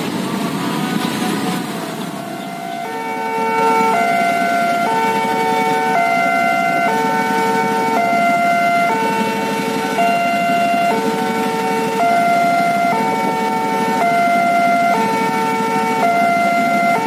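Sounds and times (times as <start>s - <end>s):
idling traffic rumble: 0.0s - 17.0s
level crossing alarm: 2.1s - 17.0s.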